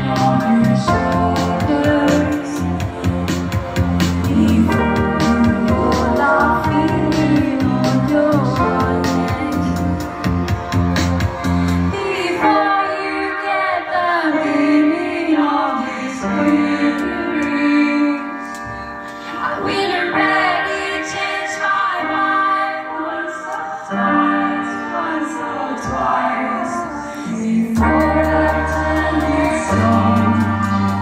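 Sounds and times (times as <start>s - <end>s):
woman singing into microphone: 0.0s - 3.3s, 4.2s - 10.0s, 11.9s - 31.0s.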